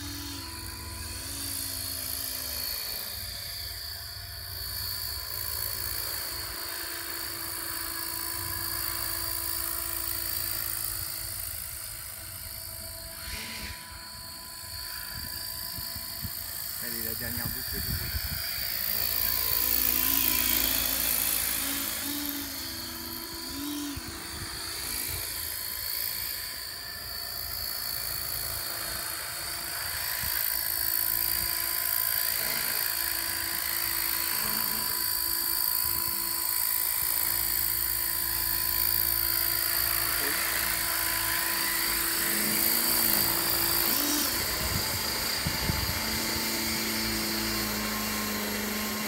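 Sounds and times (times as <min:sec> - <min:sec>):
model helicopter rotor whine: 0:00.0 - 0:49.0.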